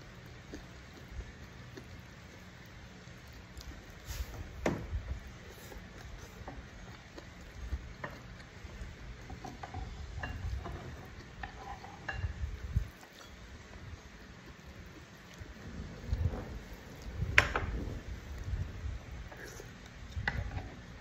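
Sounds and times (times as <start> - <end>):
chewing: 0.0 - 21.0
fingers gathering food on plate: 0.1 - 21.0.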